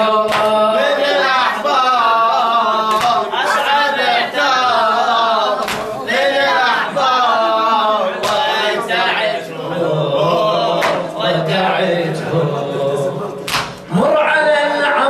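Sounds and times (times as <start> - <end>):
man chanting into microphone: 0.0 - 5.6, 7.3 - 15.0
congregation chest-beating: 0.0 - 14.1.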